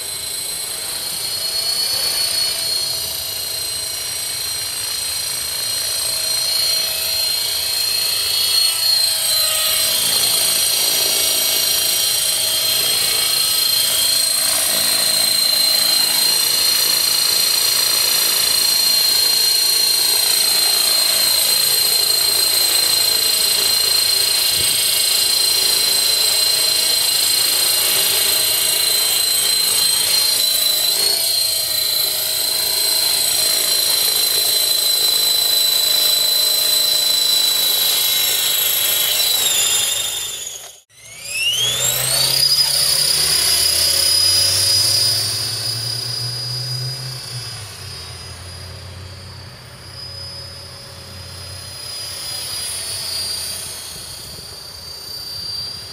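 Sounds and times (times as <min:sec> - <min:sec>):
rc helicopter rotor whine: 0:00.0 - 0:55.9.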